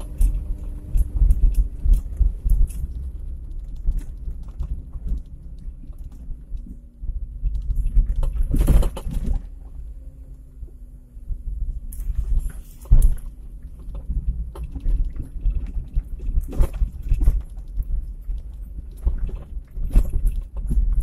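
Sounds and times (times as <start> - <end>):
car body knocking and rattling: 0.0 - 9.7, 12.0 - 21.0
engine and road rumble: 0.0 - 21.0.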